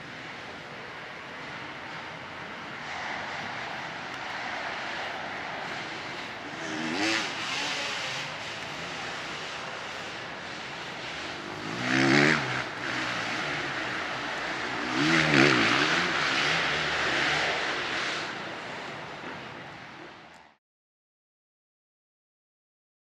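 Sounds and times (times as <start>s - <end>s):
motocross bike engines revving: 0.0s - 19.8s.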